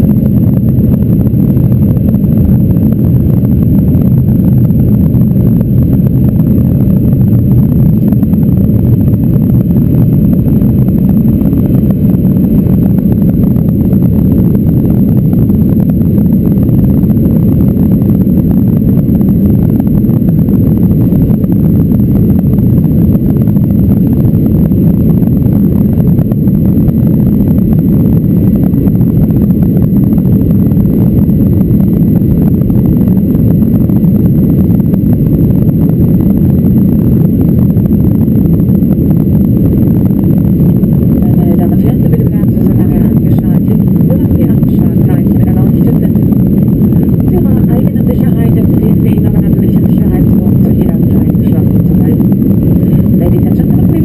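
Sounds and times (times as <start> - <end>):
air rushing along fuselage: 0.0 - 54.0
jet engines at climb power: 0.0 - 54.0.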